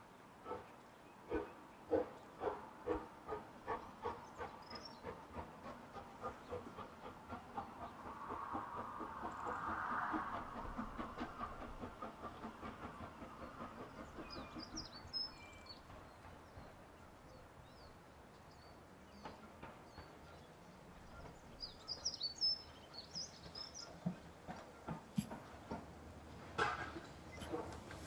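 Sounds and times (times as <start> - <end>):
faint outdoor background noise: 0.0 - 28.0.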